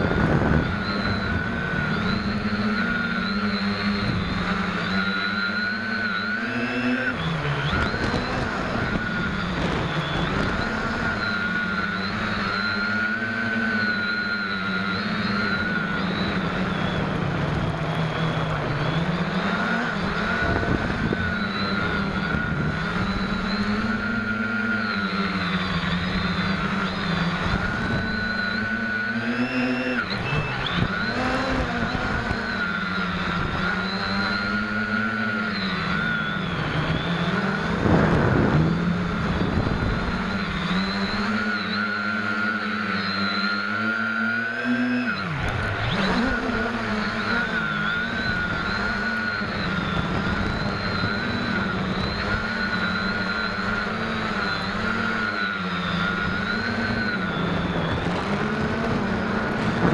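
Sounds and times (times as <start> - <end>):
quadcopter propellers buzzing: 0.0 - 59.9.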